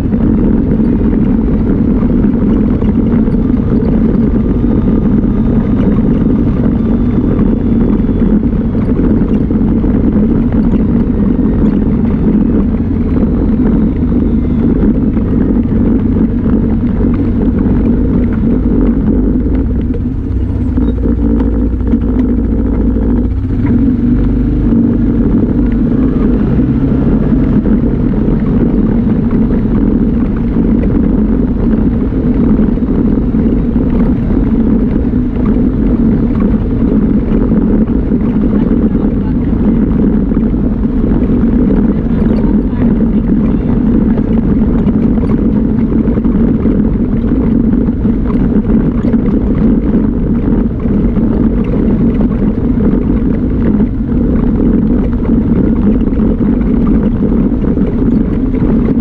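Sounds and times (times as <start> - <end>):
off-road vehicle engine running: 0.0 - 59.0
tyres rumbling on gravel: 0.0 - 59.0.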